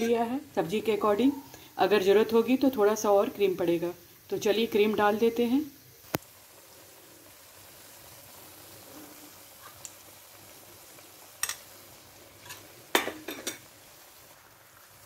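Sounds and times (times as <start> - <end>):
pan sizzling: 0.0 - 15.0.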